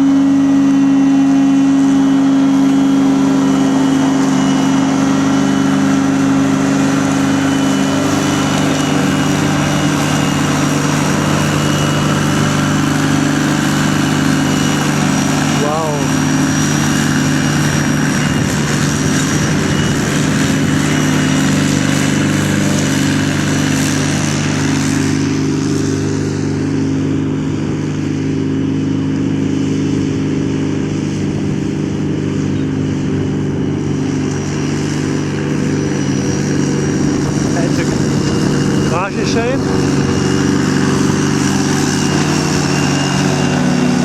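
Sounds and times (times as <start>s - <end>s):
vehicle engine humming: 0.0s - 44.0s.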